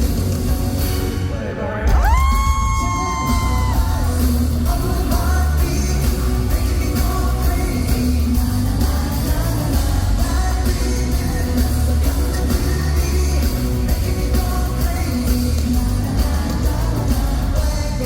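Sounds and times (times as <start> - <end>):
live pop song with singing: 0.0 - 18.0.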